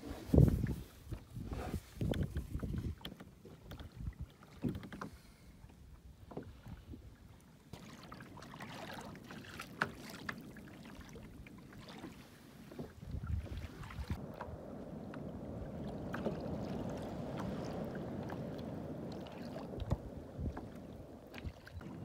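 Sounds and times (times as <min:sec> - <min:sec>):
wind rumble on microphone: 0:00.0 - 0:07.3, 0:11.1 - 0:22.0
water lapping against kayak hull: 0:00.0 - 0:22.0.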